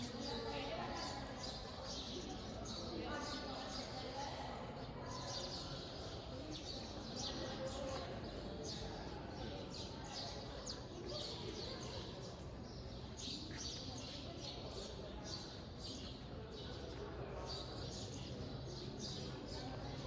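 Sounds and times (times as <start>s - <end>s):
murmur of voices: 0.0s - 20.0s.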